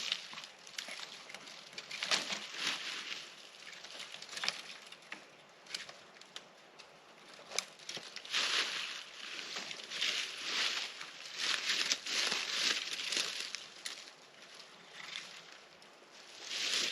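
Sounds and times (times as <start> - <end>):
twigs and leaves rustling: 0.0 - 16.9.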